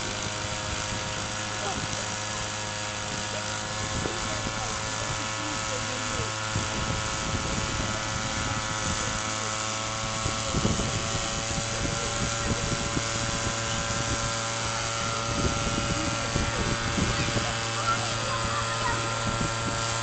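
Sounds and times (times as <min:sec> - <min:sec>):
motor droning hum: 0:00.0 - 0:20.0.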